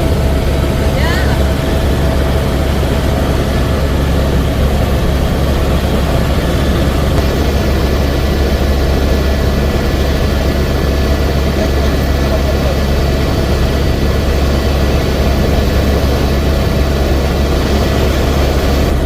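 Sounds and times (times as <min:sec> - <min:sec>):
helicopter engine and rotors: 0:00.0 - 0:19.0.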